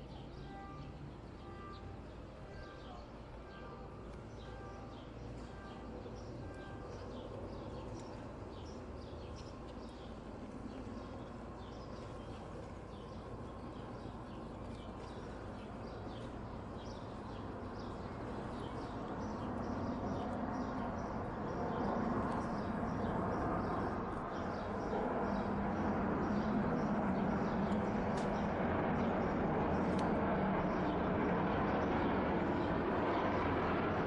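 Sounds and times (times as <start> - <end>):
birds chirping: 0.0 - 34.0
jet airliner engines rumbling: 2.0 - 34.0.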